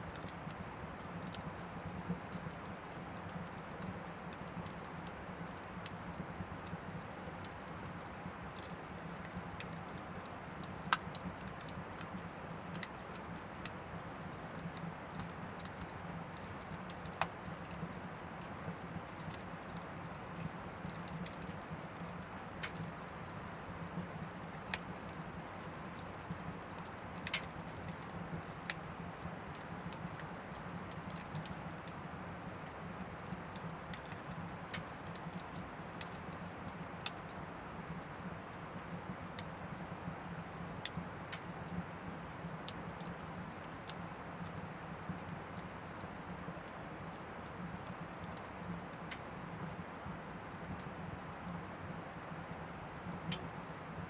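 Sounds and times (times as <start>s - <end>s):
firewood crackling and popping: 0.0s - 54.0s
wood stove low background: 0.0s - 54.0s.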